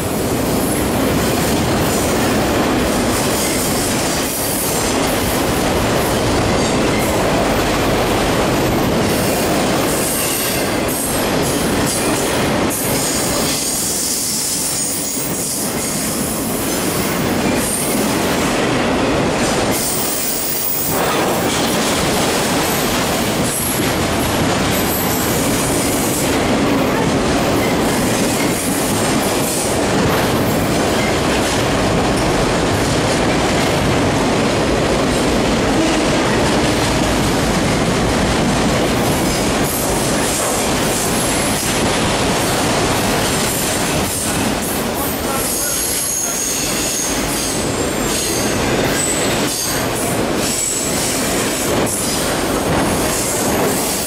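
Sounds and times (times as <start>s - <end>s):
freight train rumble and rattle: 0.0s - 54.0s.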